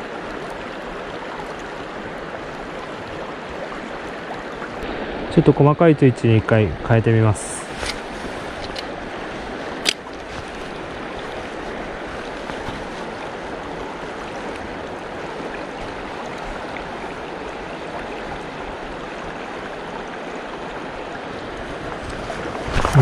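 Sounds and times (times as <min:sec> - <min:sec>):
mountain stream running: 0:00.0 - 0:23.0.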